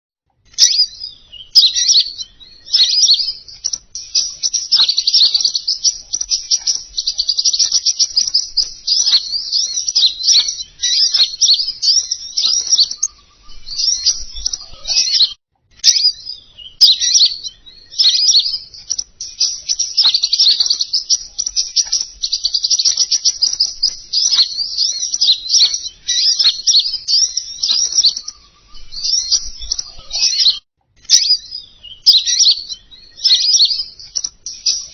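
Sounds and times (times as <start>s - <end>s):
songbird chirps and trills: 0.3s - 34.9s.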